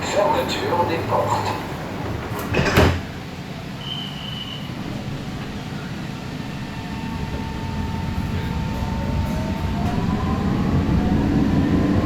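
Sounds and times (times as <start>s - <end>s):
train rolling rumble: 0.0s - 12.0s.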